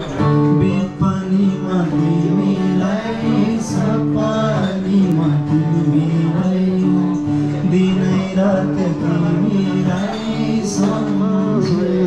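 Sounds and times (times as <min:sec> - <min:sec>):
guitar accompaniment: 0:00.0 - 0:12.0
man singing: 0:00.0 - 0:12.0.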